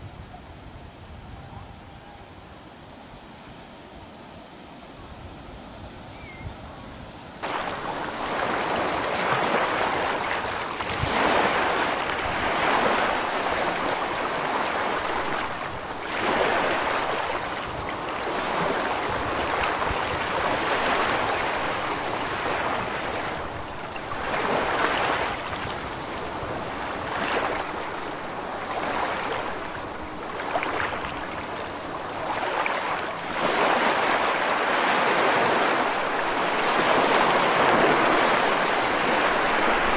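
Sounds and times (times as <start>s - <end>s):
sea water rushing in a wake: 7.4s - 39.9s.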